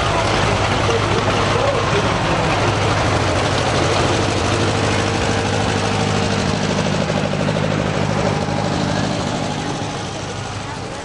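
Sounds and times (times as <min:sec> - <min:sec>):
vehicle engine running at low revs: 0:00.0 - 0:11.0.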